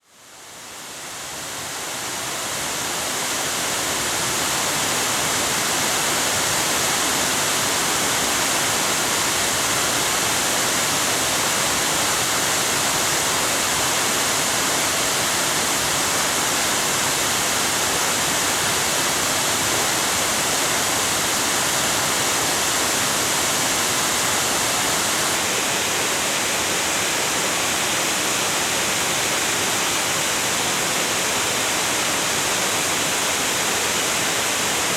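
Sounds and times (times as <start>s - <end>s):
waterfall rushing: 0.6s - 34.9s.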